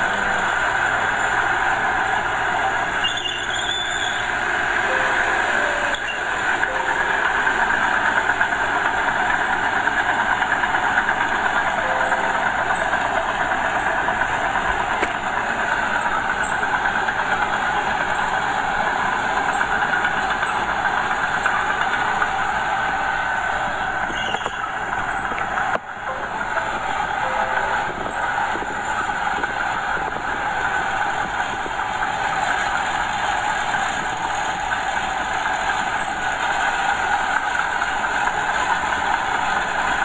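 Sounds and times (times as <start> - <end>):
bulldozer diesel engine running: 0.0 - 40.0.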